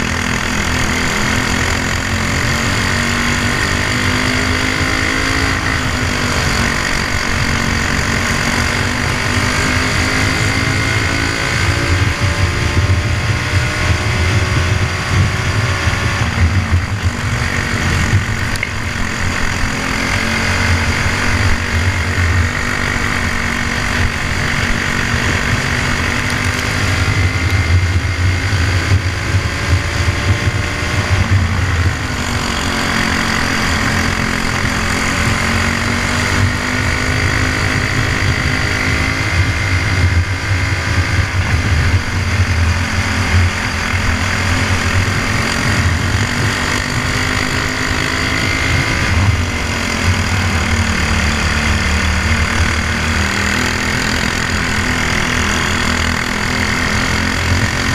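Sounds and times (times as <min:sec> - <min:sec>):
kart engine revving: 0:00.0 - 0:57.9.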